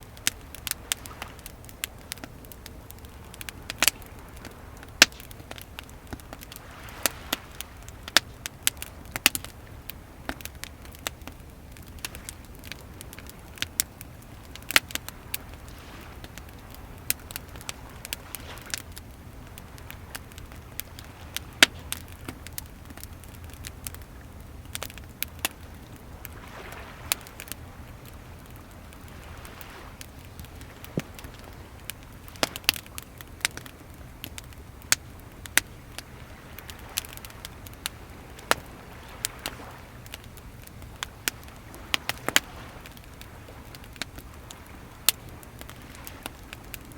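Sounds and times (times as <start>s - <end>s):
waves rumbling: 0.0s - 46.9s
wood fire crackling and popping: 0.0s - 46.9s.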